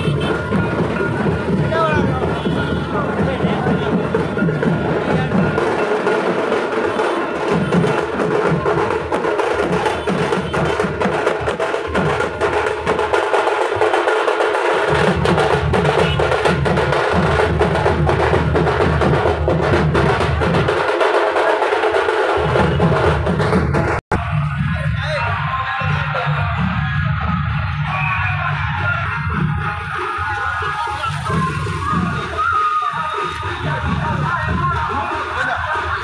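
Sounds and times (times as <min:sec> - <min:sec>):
deep drum beat: 0:00.0 - 0:36.0
drums clacking fast rhythm: 0:00.0 - 0:36.0.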